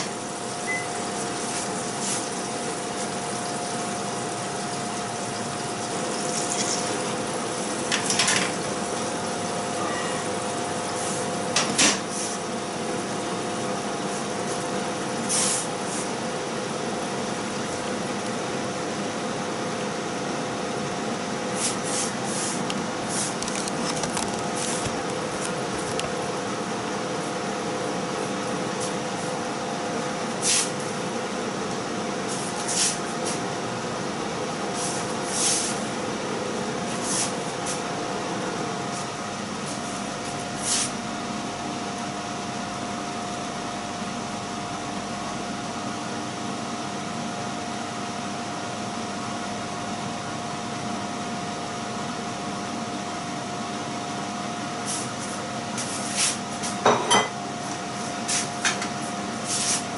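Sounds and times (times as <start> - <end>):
fan whirring with low hum: 0.0 - 59.9.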